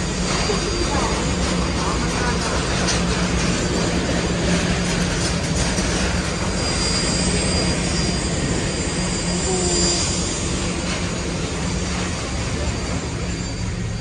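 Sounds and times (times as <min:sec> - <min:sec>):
aircraft engines: 0:00.0 - 0:14.0.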